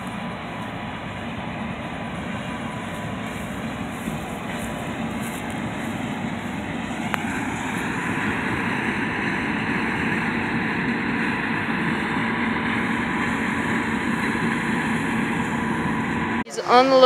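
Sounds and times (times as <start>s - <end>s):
combine harvester engine and threshing: 0.0s - 17.0s.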